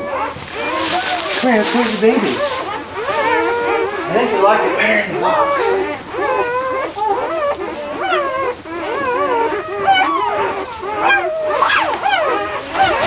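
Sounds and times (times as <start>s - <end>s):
puppies whining and squealing: 0.0s - 13.0s.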